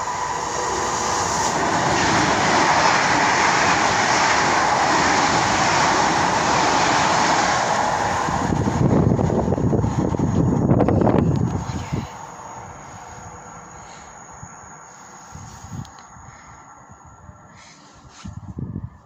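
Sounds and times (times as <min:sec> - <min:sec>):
electric train passing at speed: 0:00.0 - 0:19.0.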